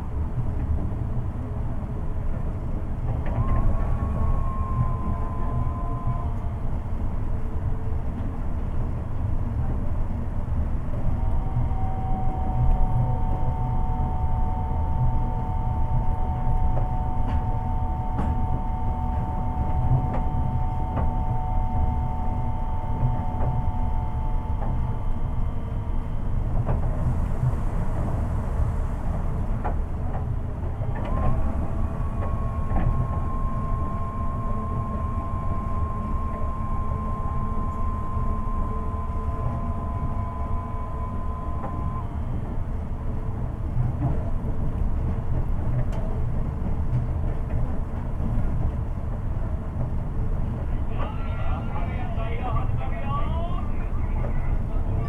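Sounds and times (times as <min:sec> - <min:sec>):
inverter and motor whine: 0:00.0 - 0:55.0
train interior rumble: 0:00.0 - 0:55.0.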